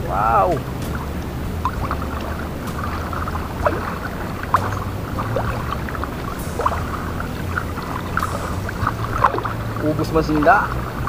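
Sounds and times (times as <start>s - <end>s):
low steady hum: 0.0s - 11.0s
short sharp splashes: 0.0s - 11.0s
water splashing and dripping: 0.0s - 11.0s.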